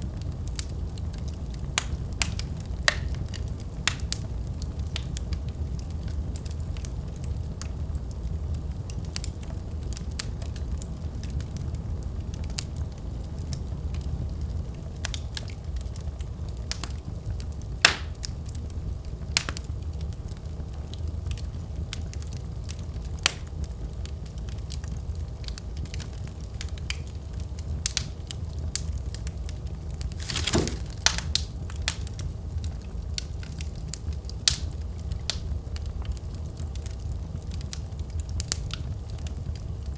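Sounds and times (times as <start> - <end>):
fire burning with crackles and pops: 0.0 - 39.9.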